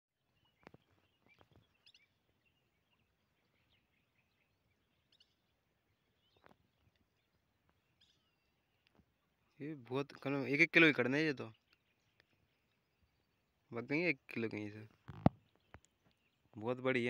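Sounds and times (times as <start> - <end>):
faint bird chirps: 0.2 - 17.0.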